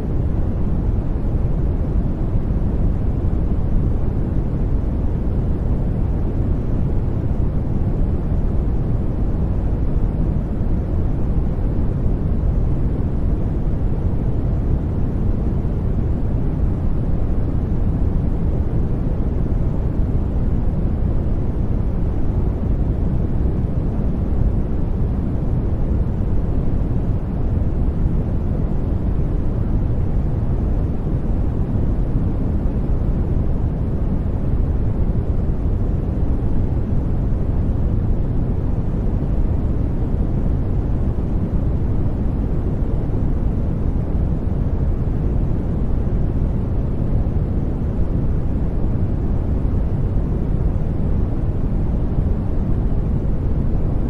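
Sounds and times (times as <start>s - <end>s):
low rumbling white noise: 0.0s - 54.0s.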